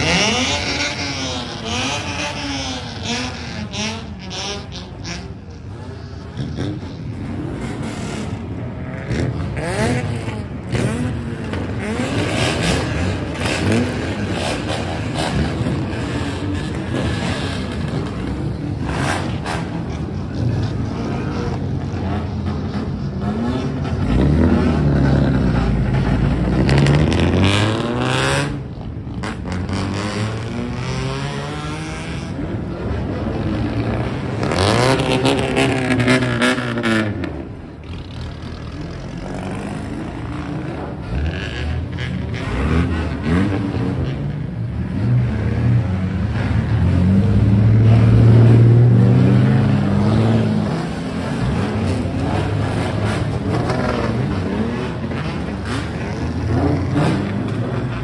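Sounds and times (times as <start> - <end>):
car engines revving loudly: 0.0 - 58.0.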